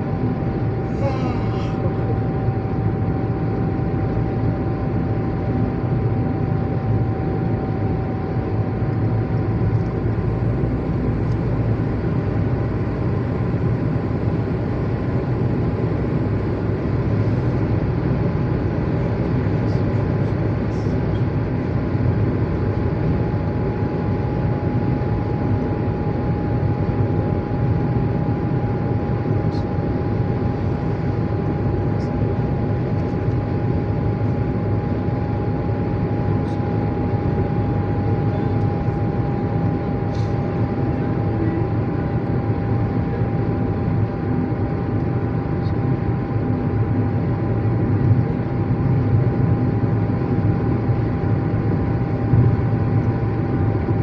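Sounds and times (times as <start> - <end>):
constant whine: 0.0 - 54.0.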